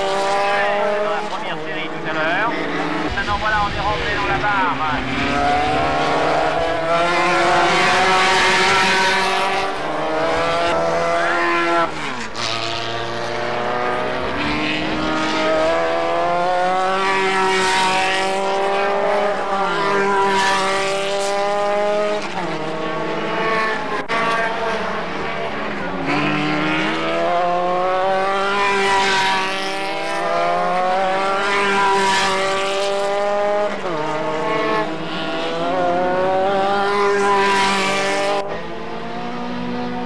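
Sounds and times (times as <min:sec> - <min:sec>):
race car engines at full throttle: 0:00.0 - 0:40.0.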